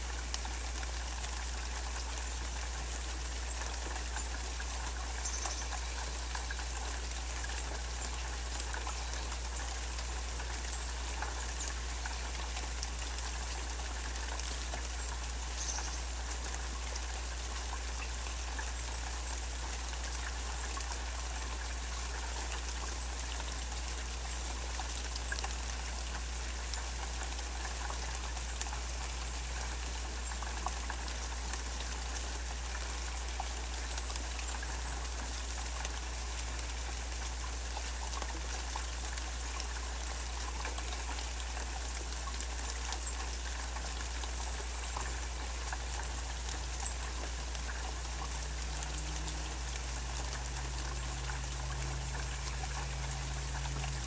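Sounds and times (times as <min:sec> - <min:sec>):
rain falling: 0:00.0 - 0:54.0
water drips: 0:00.0 - 0:54.0.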